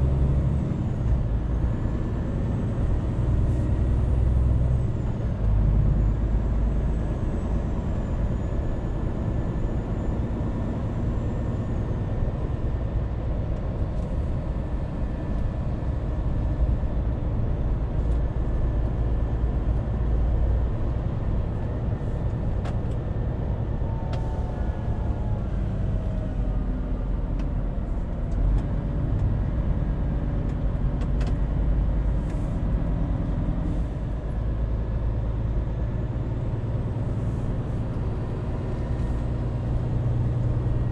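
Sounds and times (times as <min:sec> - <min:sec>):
road noise: 0:00.0 - 0:40.9
truck engine rumble: 0:00.0 - 0:40.9.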